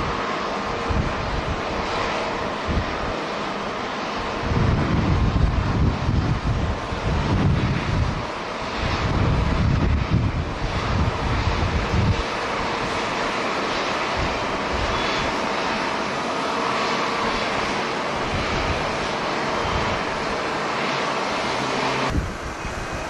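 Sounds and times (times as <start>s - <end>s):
jet engines roaring: 0.0s - 23.0s
wind buffeting microphone: 0.0s - 23.0s.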